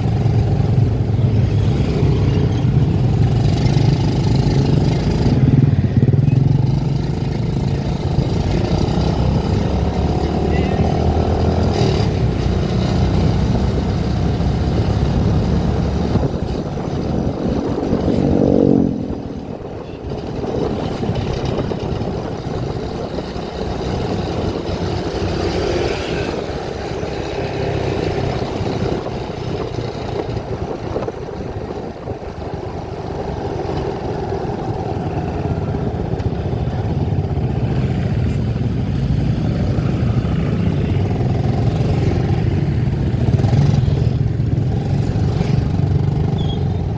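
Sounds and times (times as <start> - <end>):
road noise: 0.0 - 46.9
vehicle engine revving: 0.0 - 46.9.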